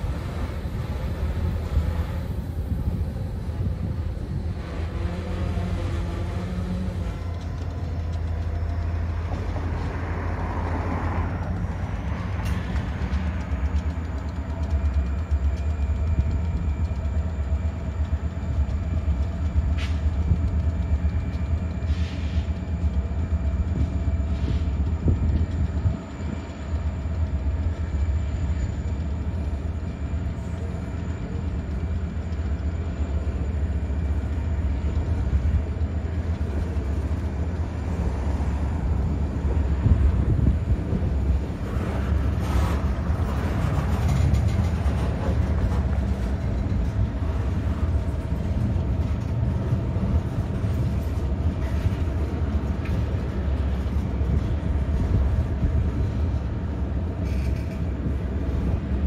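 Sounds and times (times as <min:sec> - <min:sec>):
locomotive engine rumble: 0:00.0 - 0:59.0
train wheel clicks and clatter: 0:00.0 - 0:59.0.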